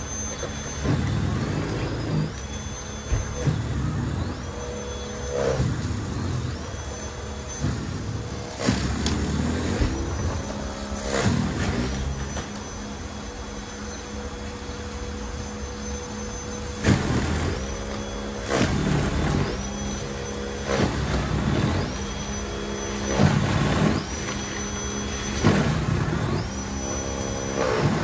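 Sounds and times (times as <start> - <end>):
snowblower clearing slushy snow: 0.0 - 28.0
snowblower motor whine: 0.0 - 28.0.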